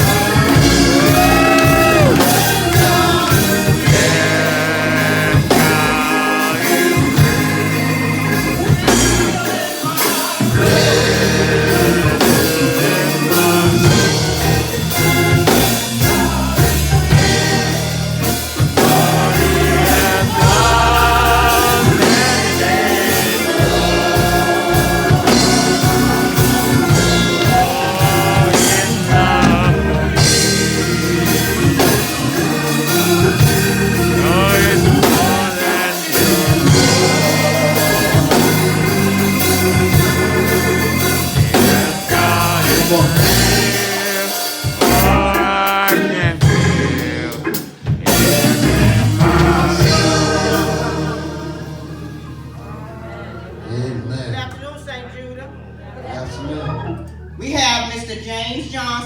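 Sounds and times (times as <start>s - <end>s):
band with drum kit: 0.0s - 53.6s
voices singing gospel: 0.0s - 59.0s.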